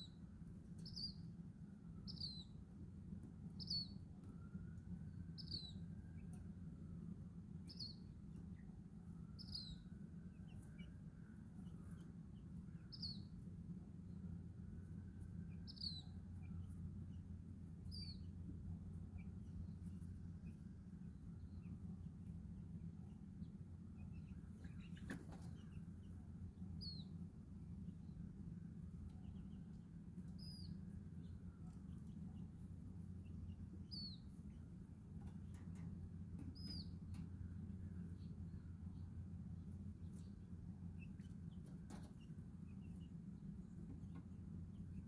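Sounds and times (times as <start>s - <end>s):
chicks peeping: 0.0s - 45.0s
steady low hum: 0.0s - 45.0s.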